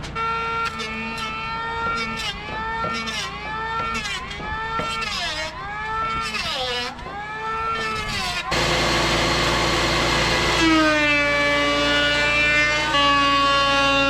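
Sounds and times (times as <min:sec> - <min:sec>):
high-pitched motor whine: 0:00.0 - 0:14.0
power tool cutting wood: 0:00.0 - 0:14.0.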